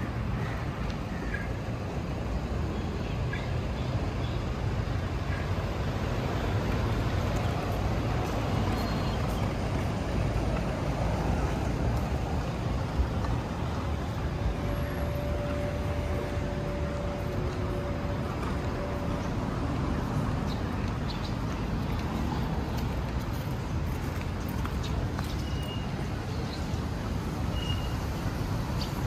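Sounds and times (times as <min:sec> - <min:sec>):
passing cars rumble and hiss: 0:00.0 - 0:29.0.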